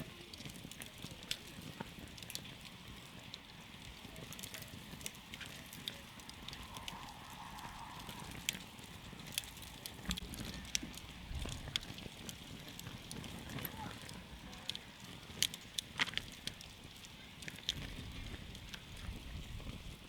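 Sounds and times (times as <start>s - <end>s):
campfire crackling: 0.0s - 20.0s
sharp pops from fire: 0.0s - 20.0s
steady fire hiss: 0.0s - 20.0s.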